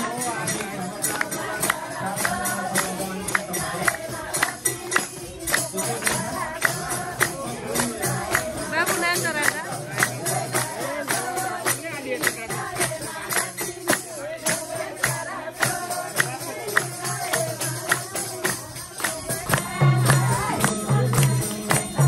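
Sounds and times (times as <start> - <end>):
rhythmic hand-clapping: 0.0 - 22.0
women singing together: 0.0 - 22.0.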